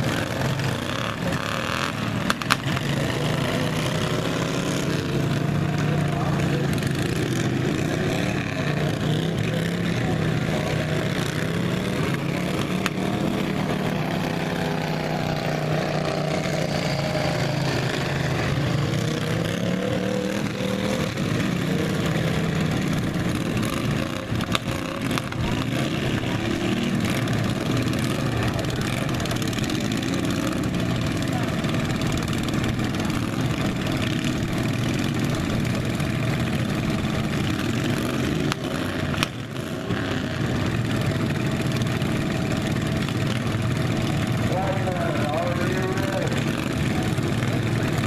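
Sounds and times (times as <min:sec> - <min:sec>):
lawn mower engines revving: 0:00.0 - 0:48.0.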